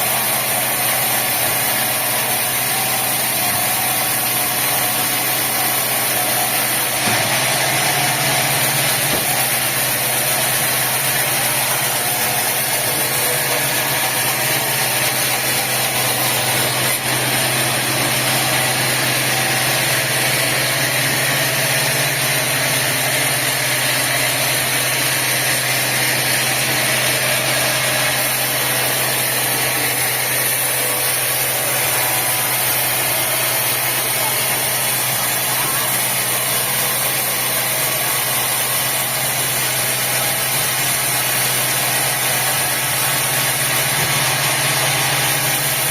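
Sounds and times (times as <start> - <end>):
sawmill machinery drone: 0.0 - 45.9.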